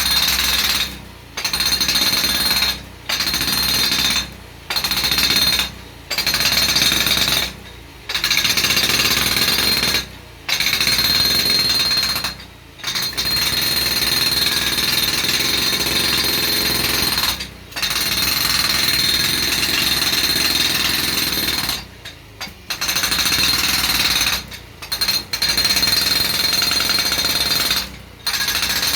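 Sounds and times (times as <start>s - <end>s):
hydraulic breaker hammering gravel: 0.0s - 28.9s.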